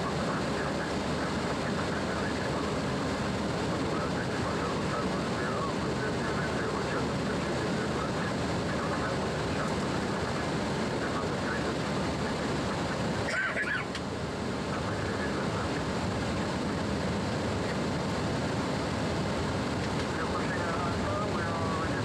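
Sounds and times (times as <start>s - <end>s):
rushing aircraft cockpit noise: 0.0s - 22.0s.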